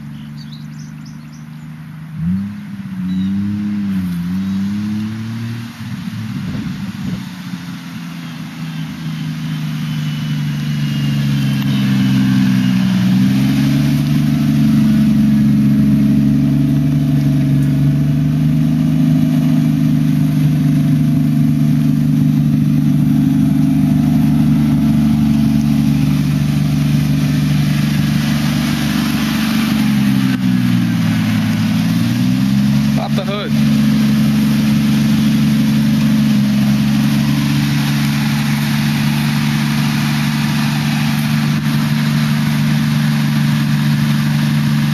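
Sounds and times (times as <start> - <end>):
turbocharged car engine running: 0.0 - 44.9.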